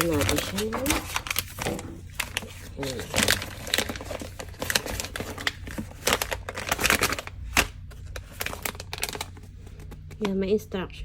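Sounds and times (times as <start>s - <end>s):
cardboard and plastic crinkling: 0.0s - 10.4s.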